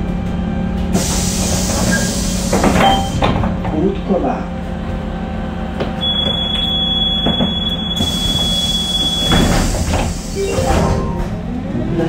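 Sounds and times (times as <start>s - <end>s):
trolleybus electrical hum: 0.0s - 12.0s.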